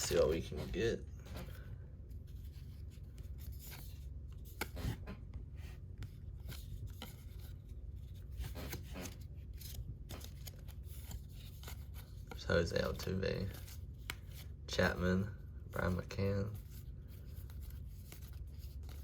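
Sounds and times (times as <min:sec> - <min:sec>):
cards swishing against each other: 0:00.0 - 0:15.0, 0:15.8 - 0:19.0.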